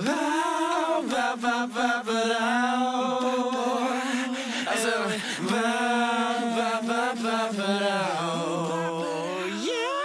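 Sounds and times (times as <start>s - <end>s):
chant-like singing voice: 0.0s - 10.0s.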